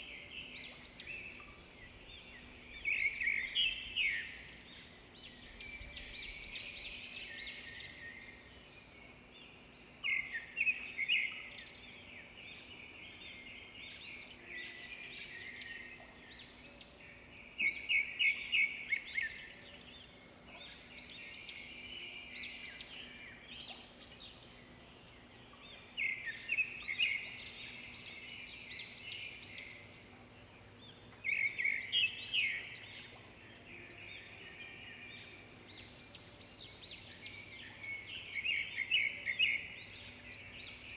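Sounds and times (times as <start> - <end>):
bird chirps chorus: 0.0 - 40.9.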